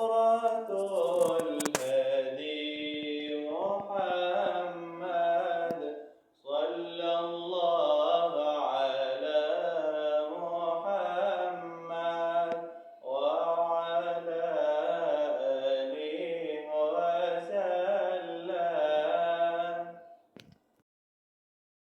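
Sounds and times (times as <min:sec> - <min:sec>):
man singing unaccompanied: 0:00.0 - 0:20.1.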